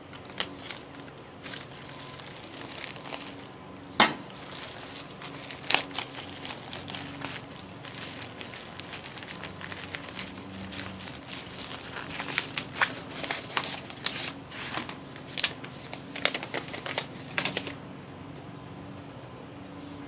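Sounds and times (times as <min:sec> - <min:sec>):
paper mailer tearing: 0:00.0 - 0:03.5, 0:04.3 - 0:17.8
paper receipt crinkling: 0:00.0 - 0:03.6, 0:04.3 - 0:17.8.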